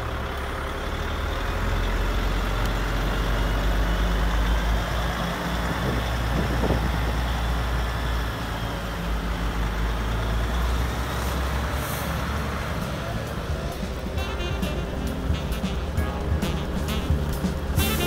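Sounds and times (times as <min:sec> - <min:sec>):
low diesel engine drone: 0:00.0 - 0:18.0.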